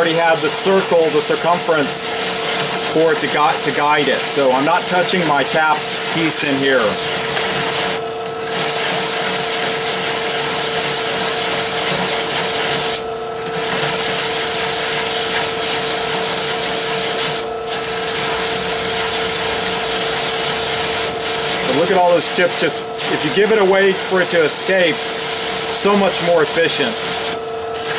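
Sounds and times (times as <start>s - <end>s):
drill press motor hum: 0.0s - 27.9s
hole saw grinding through steel: 0.0s - 27.9s.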